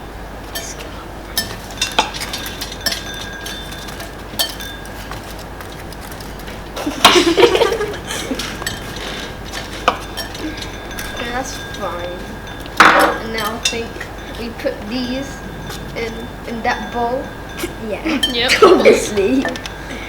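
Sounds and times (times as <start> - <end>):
spoons clinking against bowls: 0.4 - 20.0.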